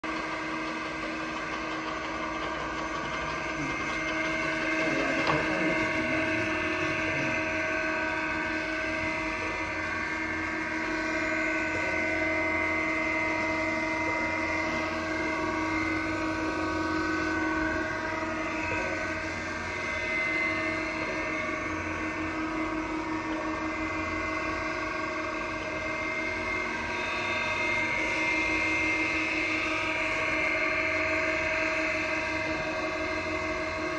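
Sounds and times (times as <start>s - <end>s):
surface grinder whining: 0.0s - 33.9s.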